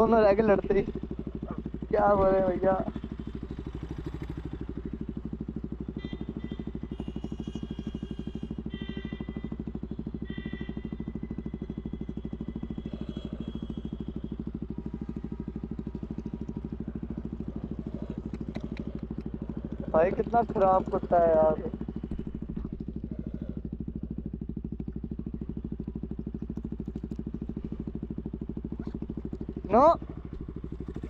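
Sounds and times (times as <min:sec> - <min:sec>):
motorcycle idling: 0:00.0 - 0:31.0.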